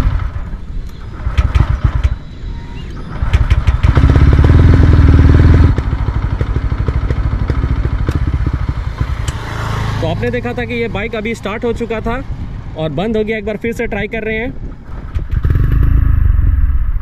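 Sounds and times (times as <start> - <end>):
motorcycle engine running: 0.0 - 2.3, 3.1 - 12.8, 14.8 - 16.7.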